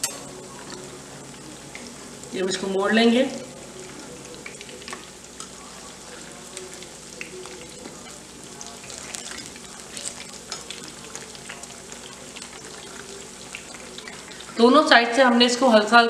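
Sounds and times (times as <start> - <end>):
deep-frying sizzle with pops: 0.0 - 16.0.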